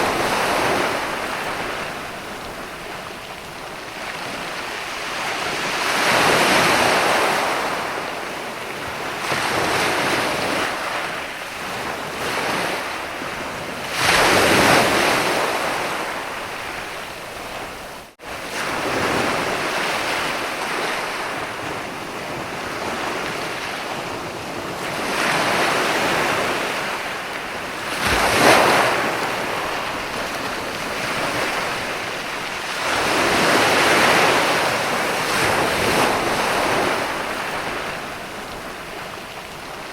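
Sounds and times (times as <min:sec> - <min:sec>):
waves breaking on a sandy beach: 0:00.0 - 0:39.9
wind on microphone: 0:00.0 - 0:39.9.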